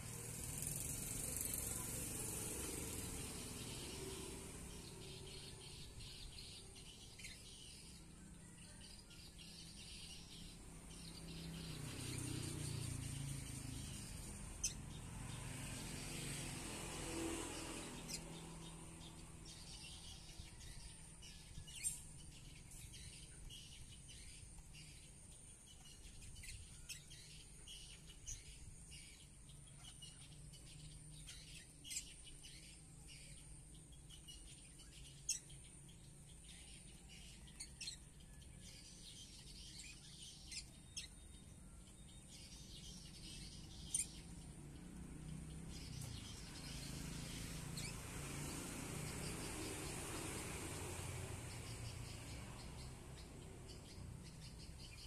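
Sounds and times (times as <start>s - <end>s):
lovebirds chirping: 0.0s - 55.0s.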